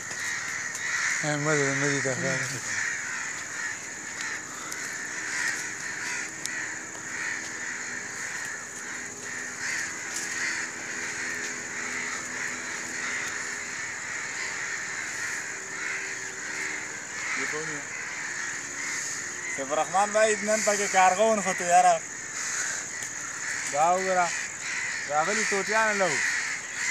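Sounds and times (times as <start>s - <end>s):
high-pitched hiss: 0.0s - 26.8s
crows cawing: 0.0s - 26.9s.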